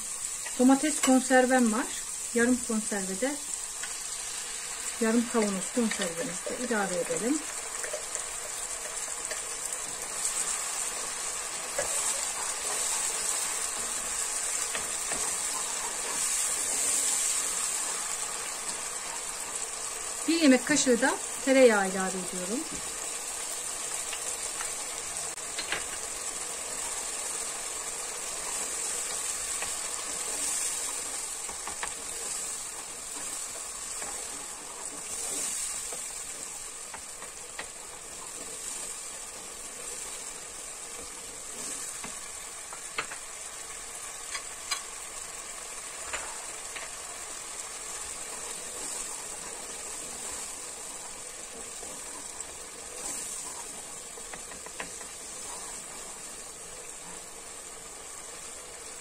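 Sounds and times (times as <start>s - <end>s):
sauce sizzling in a pot: 0.0s - 59.0s.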